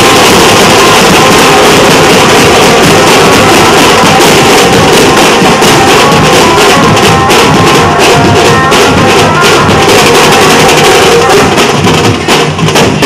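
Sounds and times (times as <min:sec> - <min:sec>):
barrel drums beaten together: 0:00.0 - 0:13.0.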